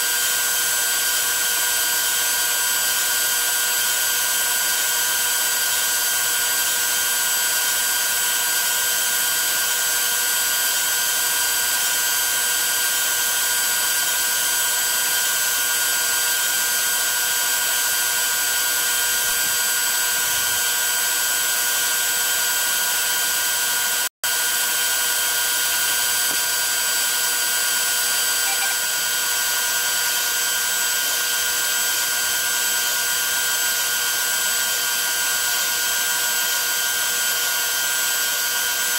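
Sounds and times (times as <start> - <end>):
router cutting aluminium: 0.0 - 38.9.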